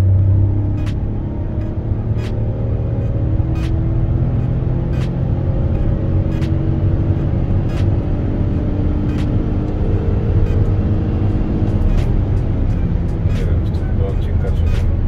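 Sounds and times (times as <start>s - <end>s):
road and tyre rumble: 0.0s - 15.0s
van engine under load: 0.0s - 15.0s.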